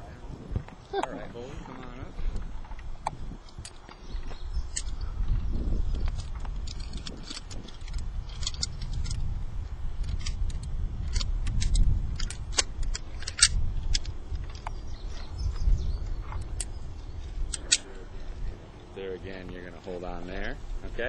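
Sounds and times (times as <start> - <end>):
steady low rumble: 0.0 - 21.0
carabiners clinking: 2.3 - 9.3, 10.0 - 20.6.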